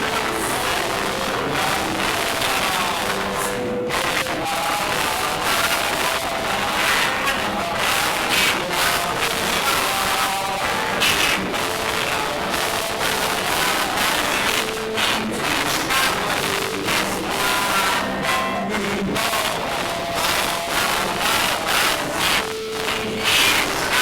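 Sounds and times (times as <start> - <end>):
music with singing and beats: 0.0 - 24.0
room full of people: 0.0 - 24.0.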